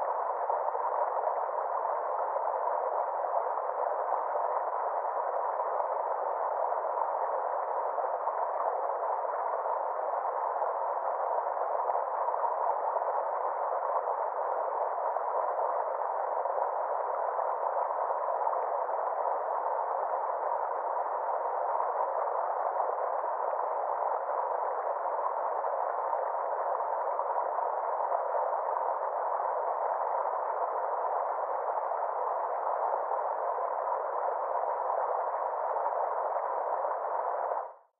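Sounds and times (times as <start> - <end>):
faint steady tone: 0.0 - 37.9.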